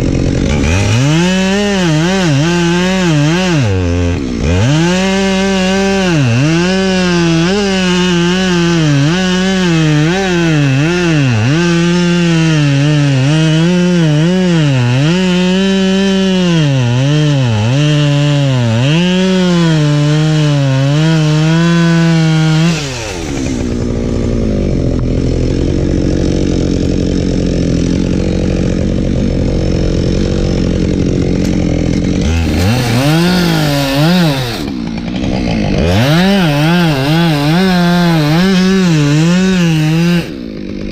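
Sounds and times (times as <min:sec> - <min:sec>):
chainsaw cutting at high revs: 0:00.0 - 0:40.9.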